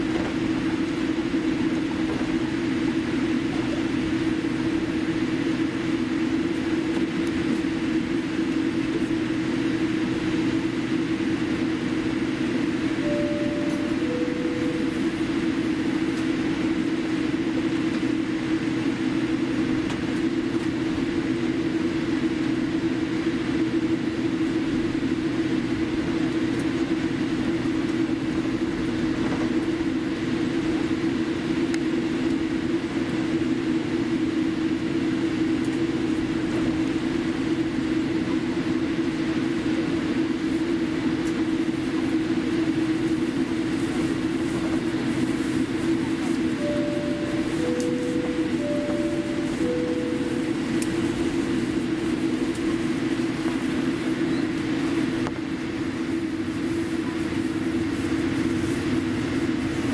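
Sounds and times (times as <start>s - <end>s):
jet engines at low power: 0.0s - 59.9s
low cabin drone: 0.0s - 59.9s.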